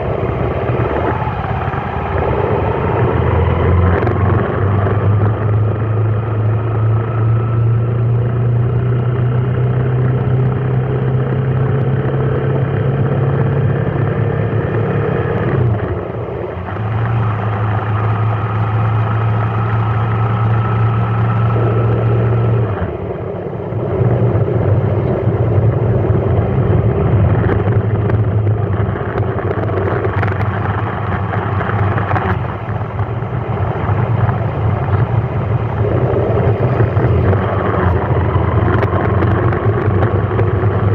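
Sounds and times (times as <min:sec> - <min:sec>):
road noise: 0:00.0 - 0:40.9
vehicle engine running: 0:00.0 - 0:40.9.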